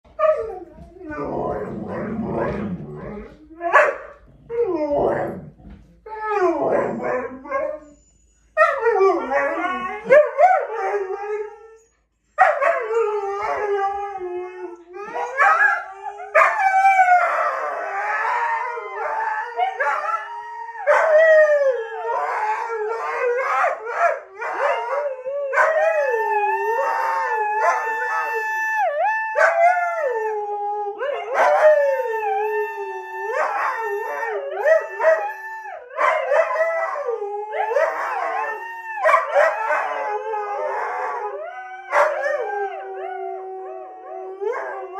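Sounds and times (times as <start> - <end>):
dogs howling: 0.1 - 8.0, 8.6 - 44.9.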